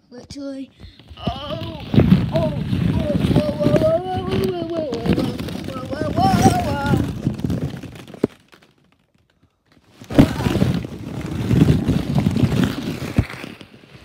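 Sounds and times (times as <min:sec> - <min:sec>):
plastic balls rustling: 0:00.2 - 0:14.0
person dropping into ball pit: 0:00.8 - 0:14.0.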